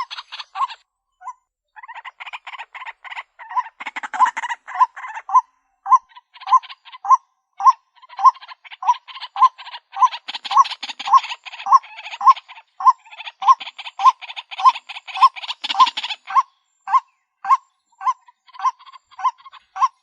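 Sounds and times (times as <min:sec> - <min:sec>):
waterhen calling: 0:00.0 - 0:00.8, 0:01.8 - 0:20.0.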